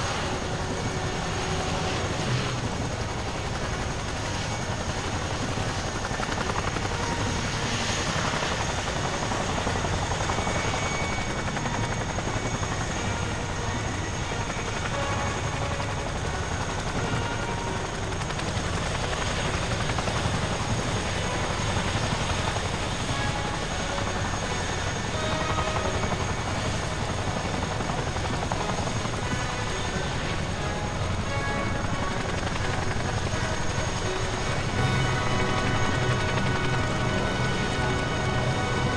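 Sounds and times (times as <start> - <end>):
helicopter rotor chop: 0.0 - 38.9
high-pitched turbine whine: 0.0 - 38.9.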